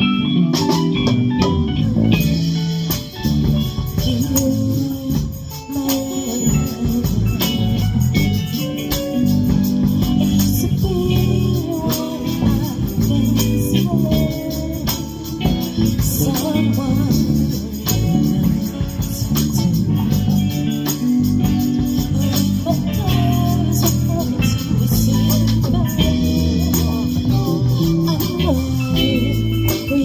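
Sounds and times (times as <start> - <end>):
bass: 0.0 - 30.0
rattling hand percussion: 0.0 - 30.0.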